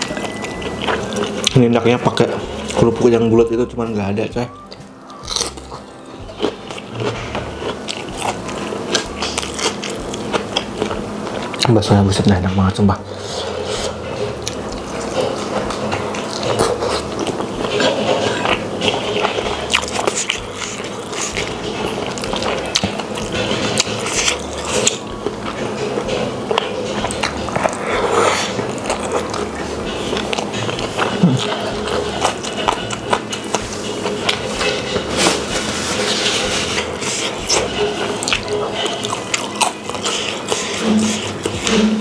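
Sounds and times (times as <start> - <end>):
food crackles: 0.0 - 42.0
wet chewing and lip-smacking: 4.6 - 11.7, 13.4 - 35.8, 36.4 - 41.9.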